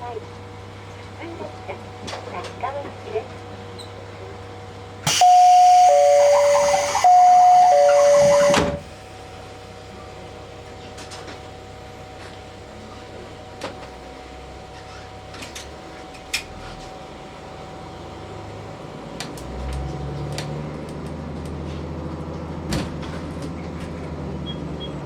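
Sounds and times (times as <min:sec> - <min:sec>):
diesel railcar engine: 0:00.0 - 0:25.0.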